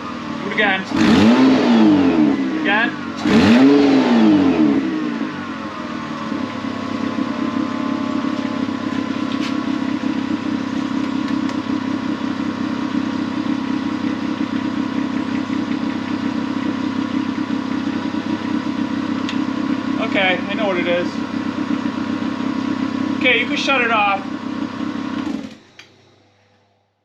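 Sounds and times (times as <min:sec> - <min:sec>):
car engine revving and idling: 0:00.0 - 0:26.2
exhaust leak: 0:00.1 - 0:25.7.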